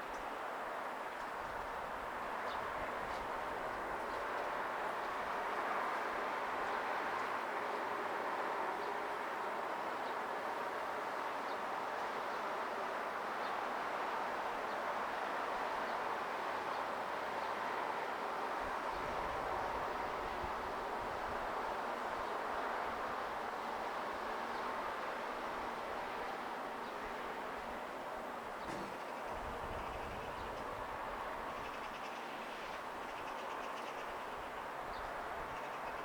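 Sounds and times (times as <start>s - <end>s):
outdoor background hiss and rumble: 0.0s - 36.0s.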